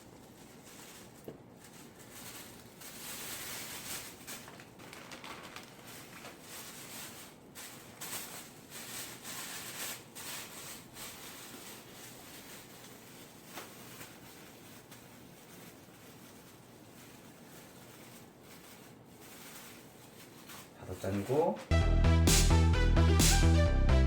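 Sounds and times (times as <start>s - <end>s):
plastic packaging crinkling: 0.0s - 21.6s.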